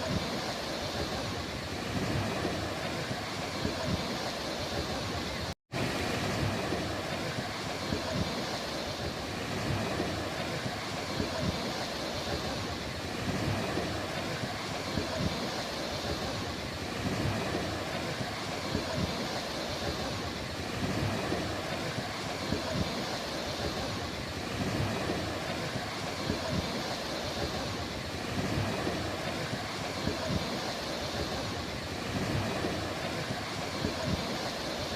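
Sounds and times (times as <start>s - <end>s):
sea waves washing onto beach: 0.0s - 34.9s.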